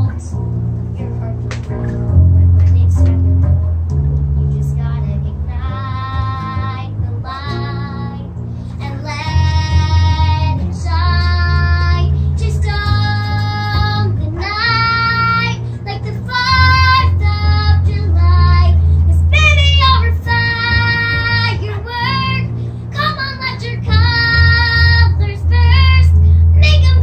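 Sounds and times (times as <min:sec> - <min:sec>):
electric bass guitar: 0:00.0 - 0:27.0
girl singing long notes: 0:04.6 - 0:27.0.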